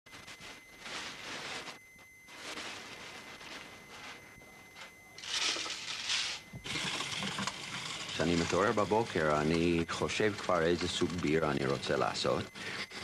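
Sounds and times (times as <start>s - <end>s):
plastic bag rustling: 0.1s - 12.8s.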